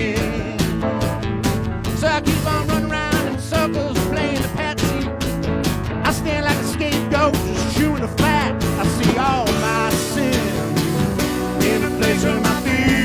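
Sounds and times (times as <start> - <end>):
bending lead guitar line: 0.0 - 13.0
drum beat: 0.2 - 13.0.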